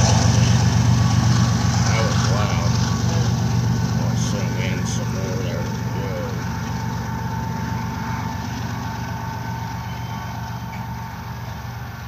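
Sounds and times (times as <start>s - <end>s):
diesel locomotive engine drone: 0.0s - 12.0s
thin steady whine: 0.0s - 12.0s
train wheels rumbling on rail: 0.0s - 12.0s.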